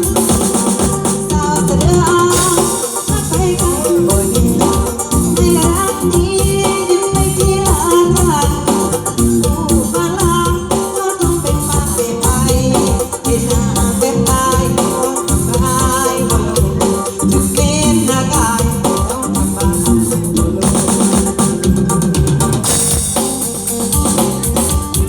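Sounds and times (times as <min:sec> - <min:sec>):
folk band with singing: 0:00.0 - 0:25.0.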